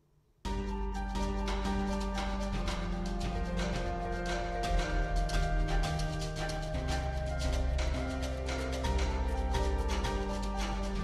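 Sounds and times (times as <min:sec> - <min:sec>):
instrumental music with beat: 0:00.5 - 0:11.0.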